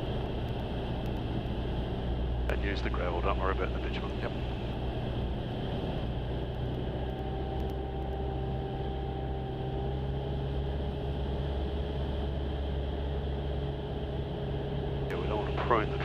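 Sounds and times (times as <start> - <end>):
aircraft engine droning: 0.0 - 16.0
faint steady whine: 0.0 - 16.0.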